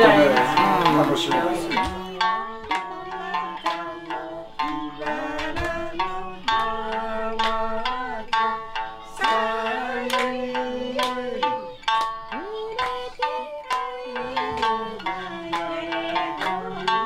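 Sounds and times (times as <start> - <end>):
person singing: 0.0 - 17.0
plucked lute melody: 0.0 - 17.0.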